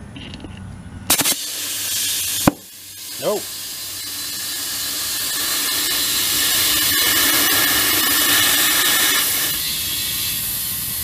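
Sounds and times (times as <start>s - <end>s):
compressed air hissing into tyre: 1.1s - 11.0s.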